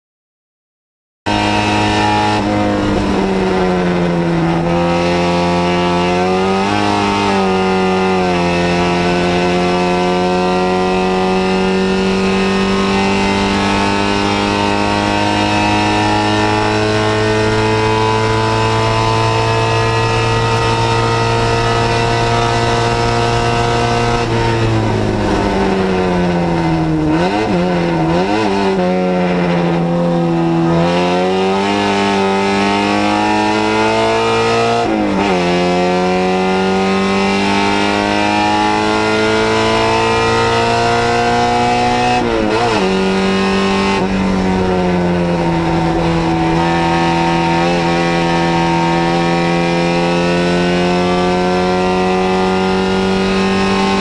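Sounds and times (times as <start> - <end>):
car engine accelerating hard: 1.3 - 54.0.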